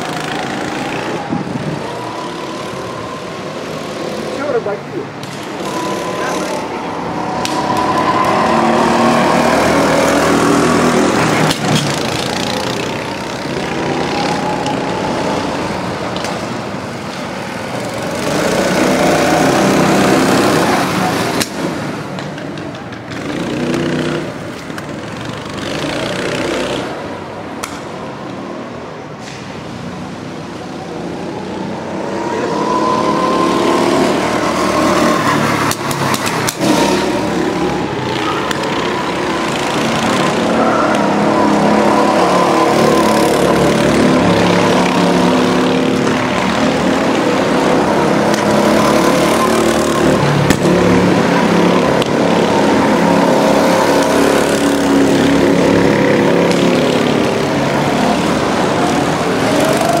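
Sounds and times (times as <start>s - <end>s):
go-kart engines: 0.0s - 60.0s.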